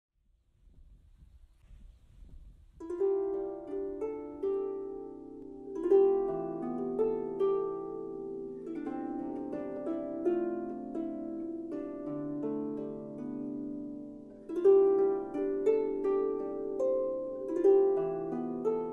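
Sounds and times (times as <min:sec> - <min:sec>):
faint low noise: 0:00.2 - 0:18.9
harp plucked melody: 0:02.8 - 0:18.9.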